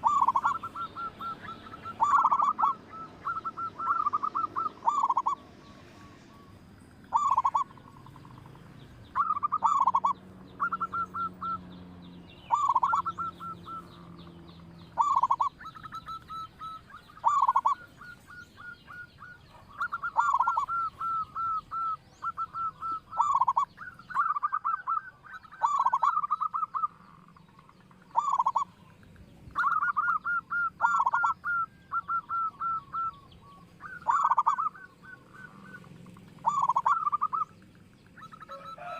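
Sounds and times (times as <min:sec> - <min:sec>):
dove cooing: 0:00.0 - 0:11.8, 0:12.5 - 0:14.3, 0:14.9 - 0:38.9.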